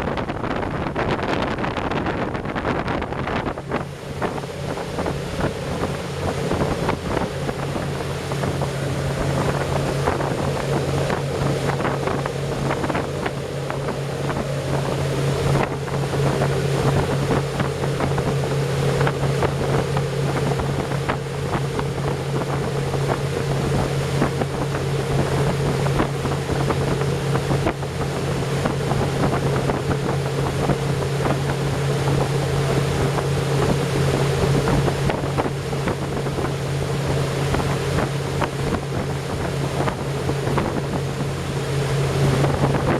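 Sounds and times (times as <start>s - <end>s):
boat engine humming: 0.0s - 42.9s
continuous rushing noise: 0.0s - 42.9s
wind buffeting microphone: 0.0s - 42.9s.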